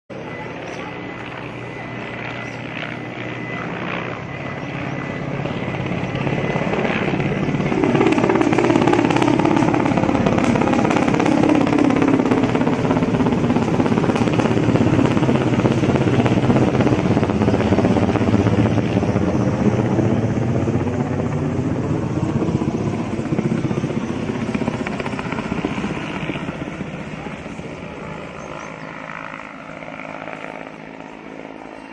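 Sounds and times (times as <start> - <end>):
helicopter rotor chopping: 0.1 - 31.9.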